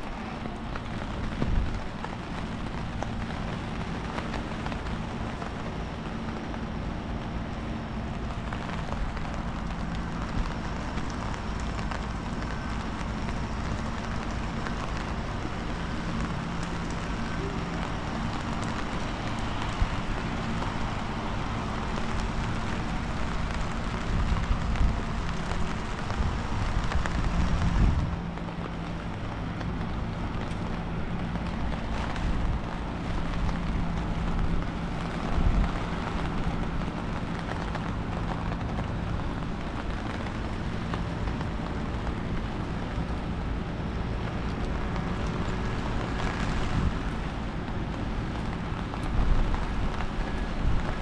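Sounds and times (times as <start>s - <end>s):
rain falling: 0.0s - 51.0s
wind buffeting microphone: 0.0s - 51.0s.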